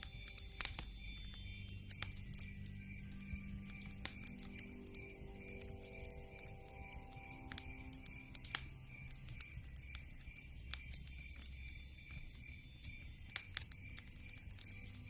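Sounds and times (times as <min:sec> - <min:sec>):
campfire crackling and popping: 0:00.0 - 0:15.0
night insects chirping: 0:00.0 - 0:15.0.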